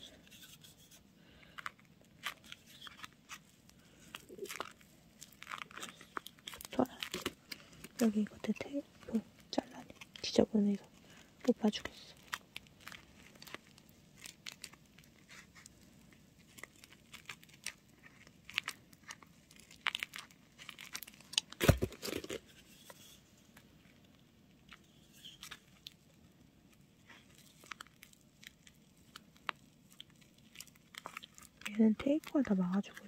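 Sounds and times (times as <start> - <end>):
tape crinkling: 0.0 - 33.0.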